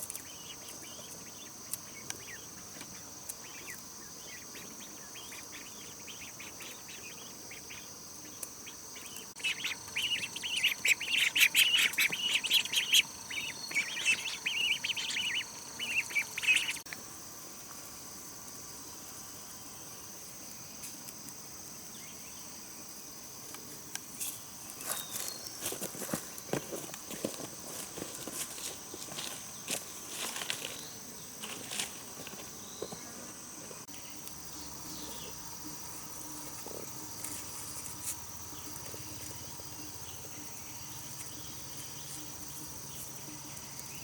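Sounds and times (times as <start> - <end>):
birds chirping: 0.0 - 16.9, 24.4 - 44.0
high-pitched insect drone: 0.0 - 20.2, 24.7 - 44.0.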